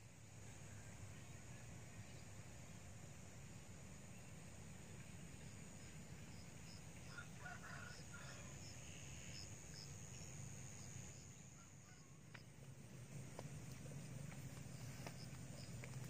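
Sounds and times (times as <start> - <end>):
low rumble and hiss: 0.0 - 16.0.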